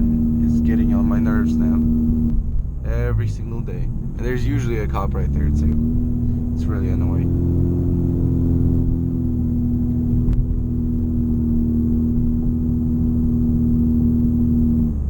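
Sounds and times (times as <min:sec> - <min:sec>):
car exhaust tone at cruise: 0:00.0 - 0:15.0.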